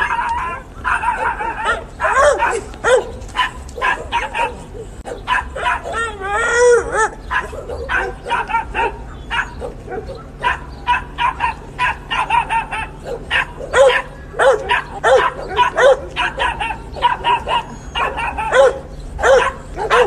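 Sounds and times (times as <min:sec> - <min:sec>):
high-pitched animal yelps: 0:00.0 - 0:20.0.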